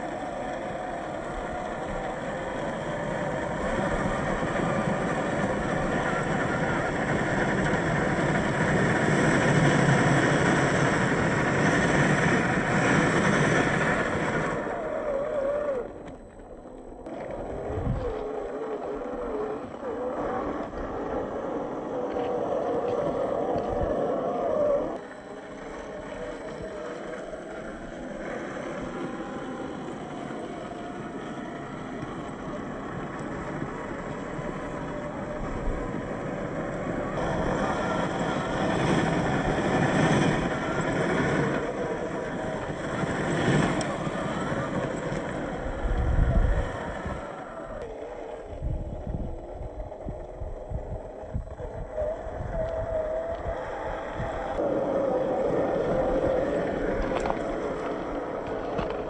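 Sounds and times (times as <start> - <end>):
toy car motor whine: 0.0 - 59.0
tyres scraping over dirt and rocks: 0.0 - 59.0.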